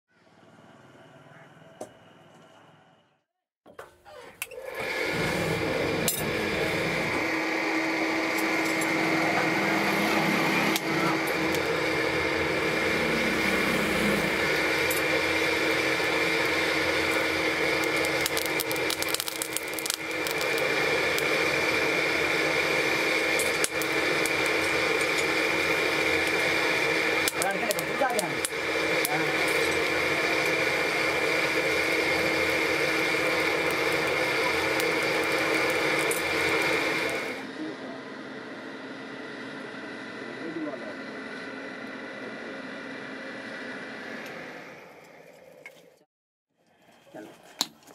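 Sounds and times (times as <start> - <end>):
electric blower humming: 4.6 - 45.2.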